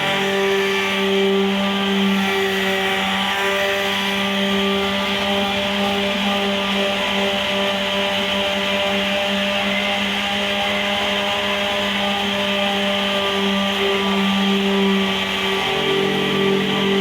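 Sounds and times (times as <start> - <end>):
power sander sanding: 0.0 - 17.0.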